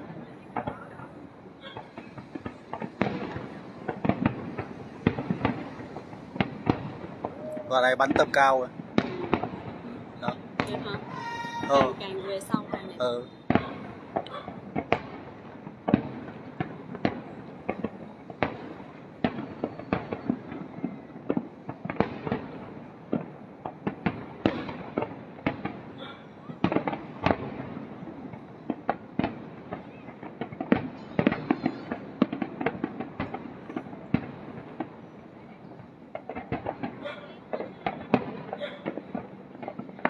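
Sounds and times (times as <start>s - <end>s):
fireworks bursting: 0.0s - 40.0s.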